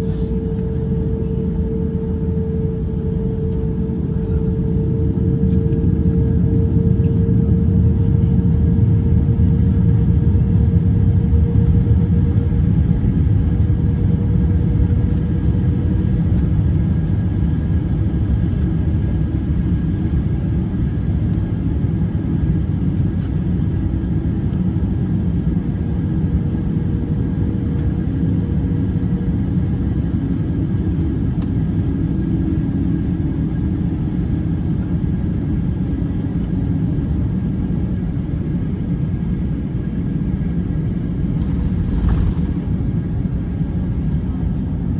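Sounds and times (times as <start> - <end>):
aircraft engine and airflow rumble: 0.0 - 44.9.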